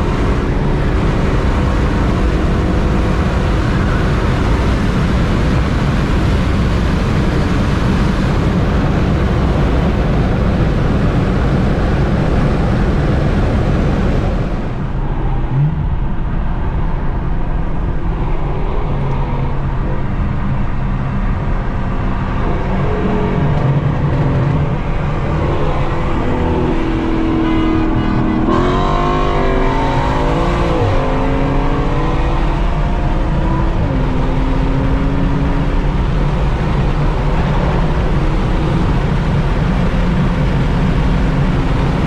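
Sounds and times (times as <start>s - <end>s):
car engine running: 0.0s - 42.0s
road and wind noise: 0.0s - 42.0s.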